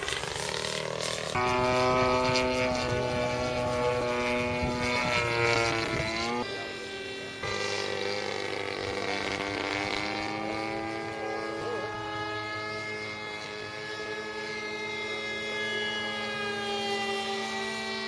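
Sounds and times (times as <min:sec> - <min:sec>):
model airplane engine buzzing: 0:00.0 - 0:18.0.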